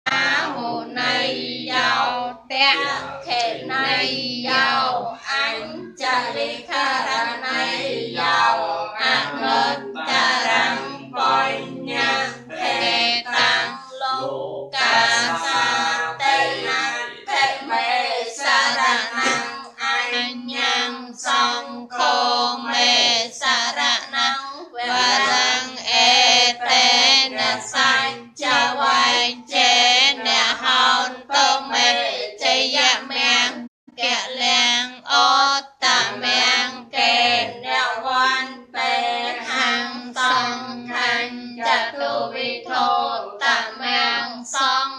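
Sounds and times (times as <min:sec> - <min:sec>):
voices singing a chant: 0:00.0 - 0:44.9.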